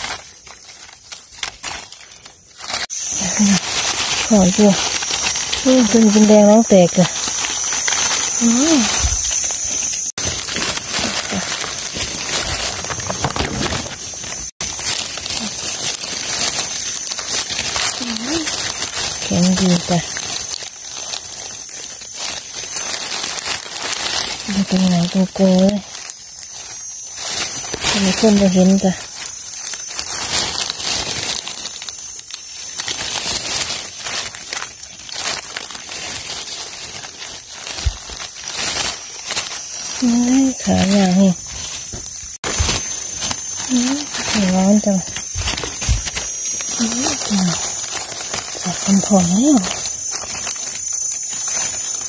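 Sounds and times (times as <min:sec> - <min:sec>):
dry leaves rustling and crackling: 0:00.0 - 0:52.0.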